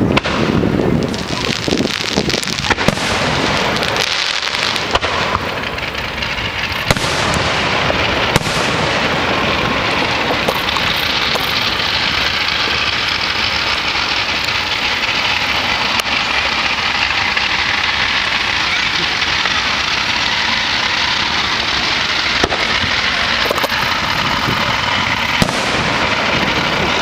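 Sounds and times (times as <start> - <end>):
dense firework crackle: 0.0 - 27.0
firework shells bursting: 0.0 - 27.0.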